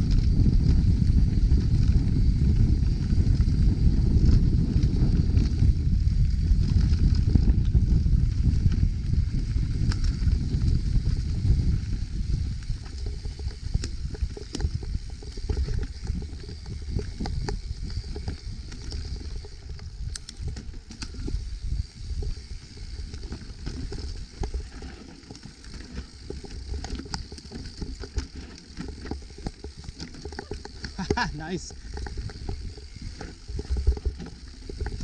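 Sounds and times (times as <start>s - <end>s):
bike clicks and rattles: 0.0s - 35.0s
tyre and wind rumble: 0.0s - 35.0s.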